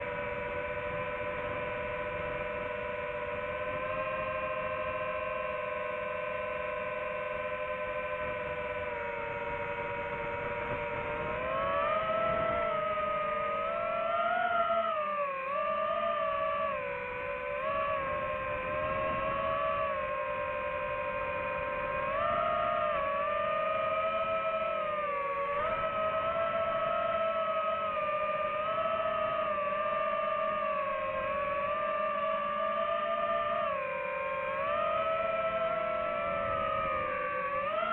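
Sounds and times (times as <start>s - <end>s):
drone motors whining: 0.0s - 37.9s.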